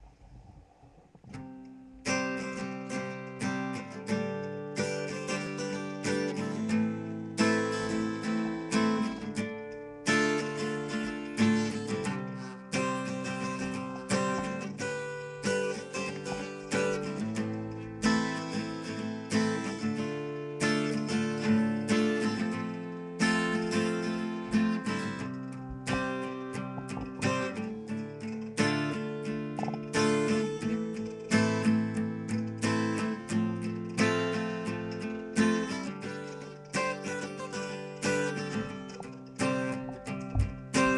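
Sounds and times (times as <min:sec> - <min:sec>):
acoustic guitar strumming chords: 0:01.2 - 0:40.9.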